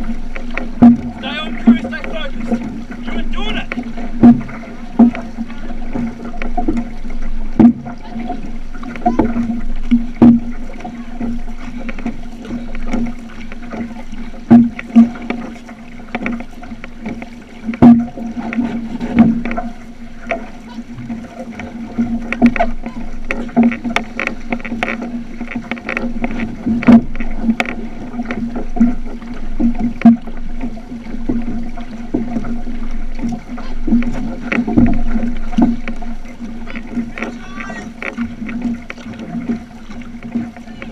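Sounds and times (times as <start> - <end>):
paddle stroke splashes: 0.0 - 40.9
water splashing against hull: 0.0 - 40.9.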